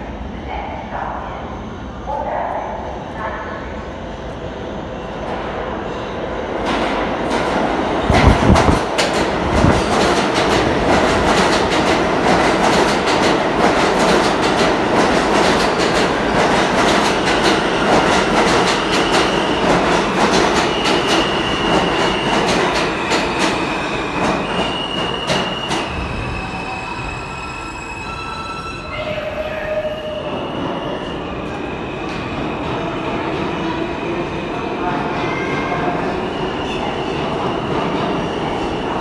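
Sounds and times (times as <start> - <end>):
subway train rumble: 0.0 - 39.0.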